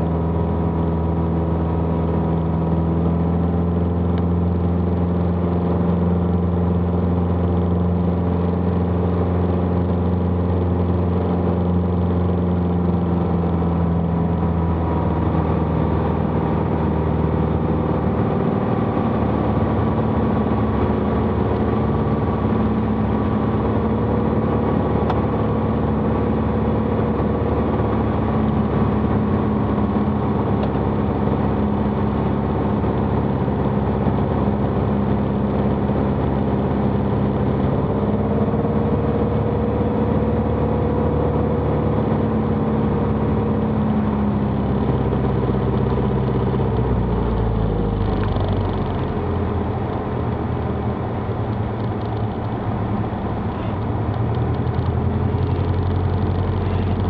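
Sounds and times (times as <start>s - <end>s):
propeller engine droning: 0.0s - 57.0s.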